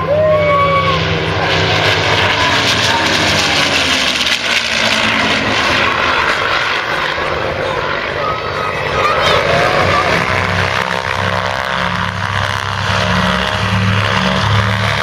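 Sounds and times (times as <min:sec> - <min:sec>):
propeller plane engine flying past: 0:00.0 - 0:15.0.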